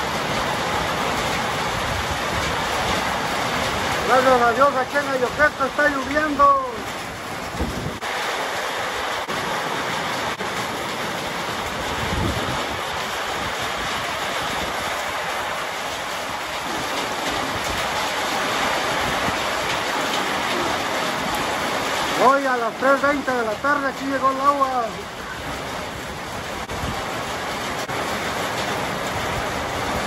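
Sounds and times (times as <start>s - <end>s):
heavy rain on concrete: 0.0s - 30.0s.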